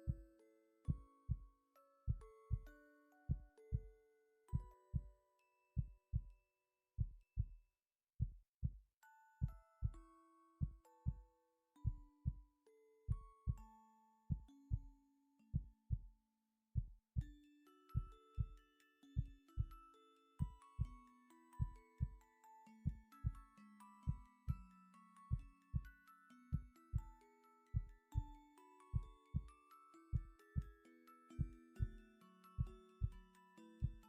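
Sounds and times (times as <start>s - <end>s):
gentle melody of held notes: 0.0s - 7.3s, 9.0s - 16.1s, 17.2s - 34.0s.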